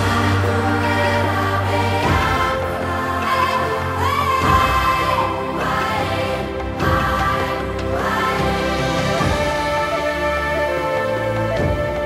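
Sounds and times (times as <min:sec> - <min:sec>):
music with sustained chords: 0:00.0 - 0:12.0.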